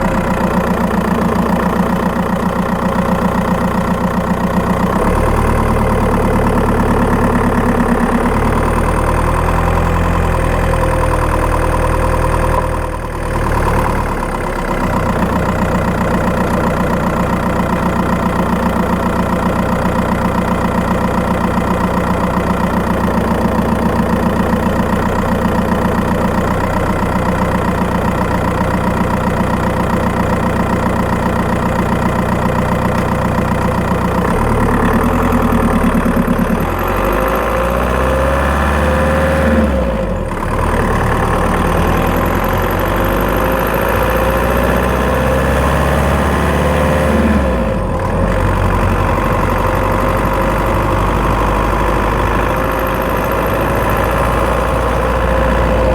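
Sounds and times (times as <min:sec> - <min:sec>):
diesel engine running: 0:00.0 - 0:55.9
engine ticking: 0:00.0 - 0:55.9.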